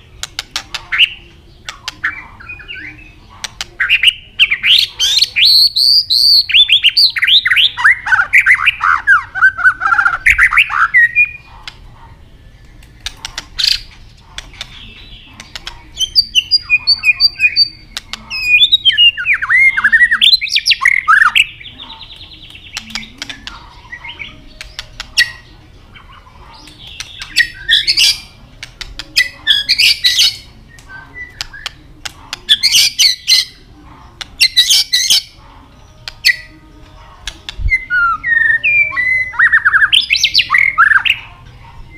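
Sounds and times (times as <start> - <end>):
bird whistling song: 0.0 - 3.2, 3.8 - 11.7, 14.6 - 31.8, 32.4 - 33.6, 34.3 - 35.4, 37.2 - 41.3
harsh bird clicking calls: 0.0 - 35.4, 36.0 - 41.3.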